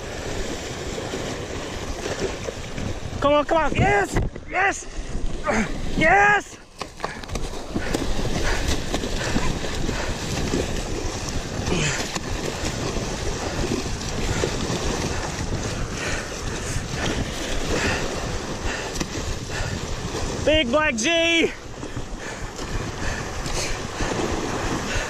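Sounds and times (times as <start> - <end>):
waves breaking against rocks: 0.0 - 25.0
wind buffeting microphone: 0.0 - 25.0.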